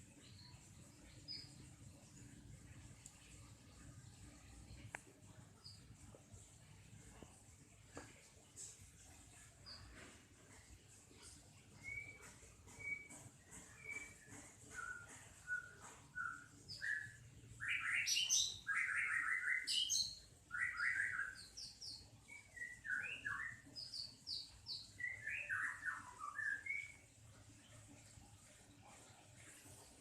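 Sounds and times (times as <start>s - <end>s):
small songbird singing: 0.0s - 6.8s, 8.5s - 30.0s.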